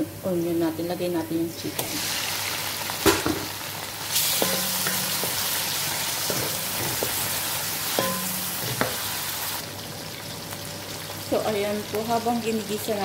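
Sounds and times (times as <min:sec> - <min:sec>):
chicken sizzling in hot oil: 0:01.7 - 0:13.0.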